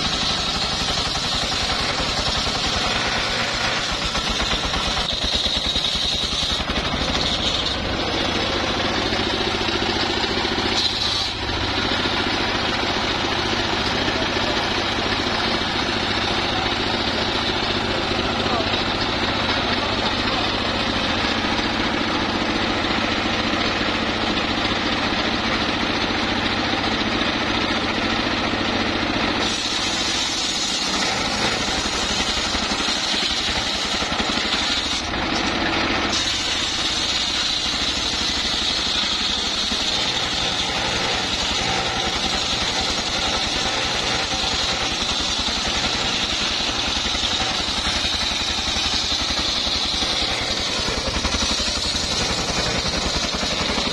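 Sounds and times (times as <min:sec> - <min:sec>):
diesel engine running: 0:00.0 - 0:53.9
saw blade cutting log: 0:00.0 - 0:53.9.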